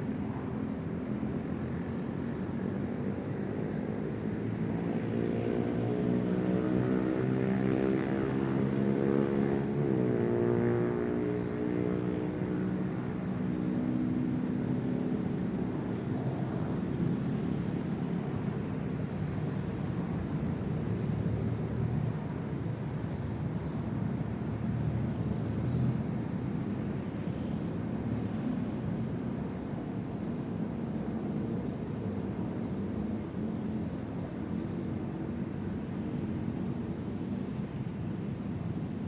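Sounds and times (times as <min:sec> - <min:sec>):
faint engine hum: 0:00.0 - 0:39.0.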